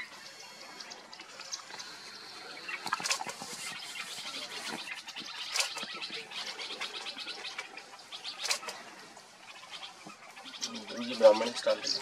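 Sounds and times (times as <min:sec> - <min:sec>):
small birds chipping and clicking: 0:00.0 - 0:12.0.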